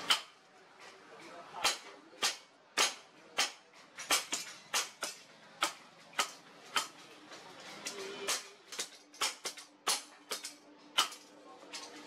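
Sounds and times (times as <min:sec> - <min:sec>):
hammer striking hot steel on anvil: 0:00.0 - 0:00.4, 0:01.6 - 0:07.0, 0:07.8 - 0:11.9.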